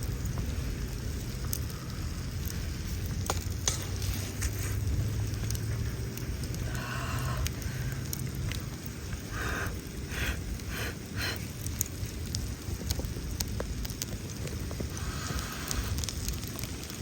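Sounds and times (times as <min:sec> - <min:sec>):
campfire crackling and popping: 0:00.0 - 0:17.0
food sizzling in iron pan: 0:00.0 - 0:17.0.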